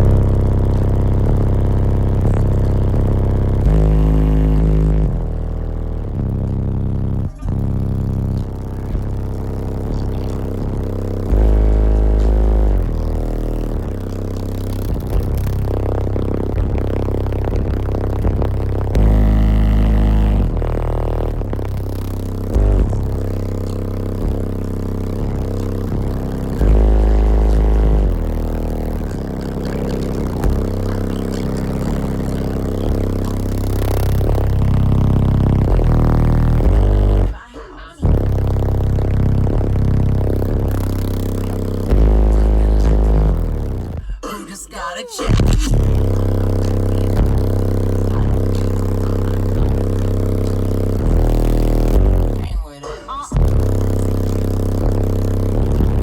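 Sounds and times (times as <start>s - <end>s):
bass-heavy music from subwoofers: 0.0s - 56.0s.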